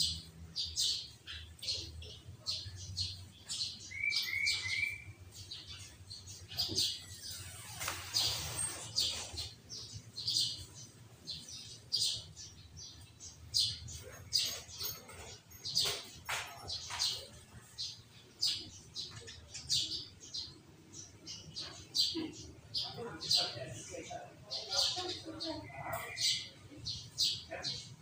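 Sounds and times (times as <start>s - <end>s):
bulbul singing: 0.0s - 23.6s.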